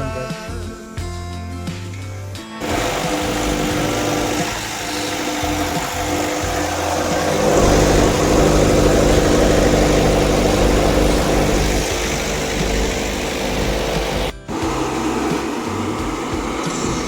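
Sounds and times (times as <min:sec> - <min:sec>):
vehicle engine idling: 0:02.7 - 0:17.0.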